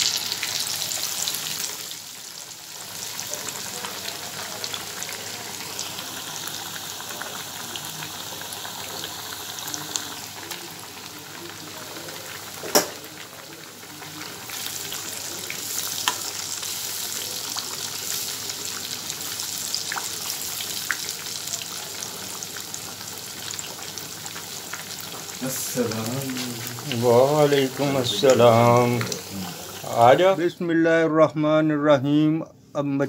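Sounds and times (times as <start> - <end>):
fish deep-frying in oil: 0.0 - 30.5.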